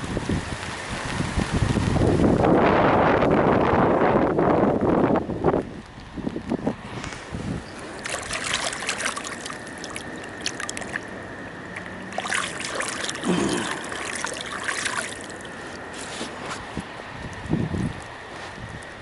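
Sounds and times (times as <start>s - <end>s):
rain pattering and dripping: 0.0s - 16.0s, 16.8s - 19.0s.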